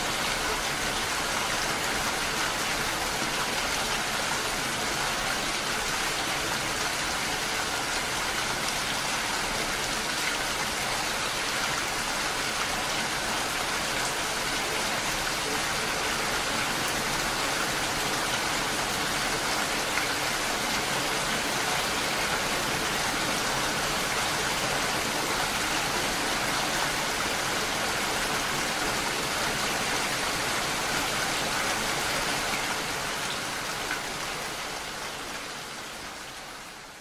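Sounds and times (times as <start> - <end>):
patter of raindrops: 0.0 - 37.0
steady rain hiss: 0.0 - 37.0.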